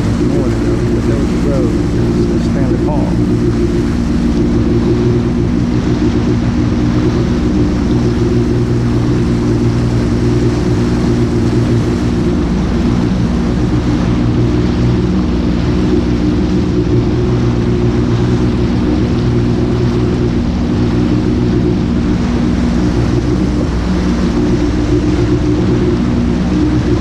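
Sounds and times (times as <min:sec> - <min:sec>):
jet ski engine droning: 0:00.0 - 0:27.0.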